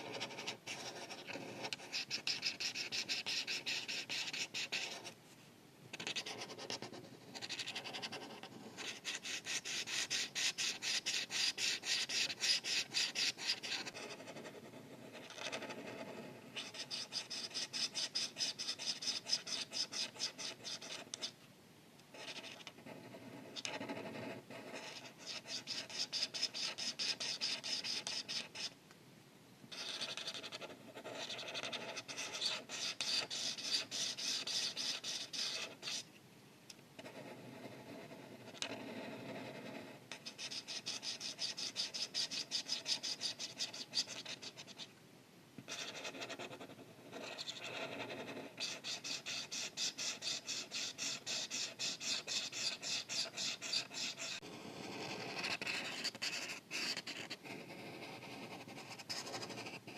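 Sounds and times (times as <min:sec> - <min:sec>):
marker scratching on paper: 0:00.0 - 0:05.2, 0:05.9 - 0:21.4, 0:22.1 - 0:28.7, 0:29.7 - 0:36.1, 0:37.0 - 0:44.9, 0:45.7 - 0:59.9.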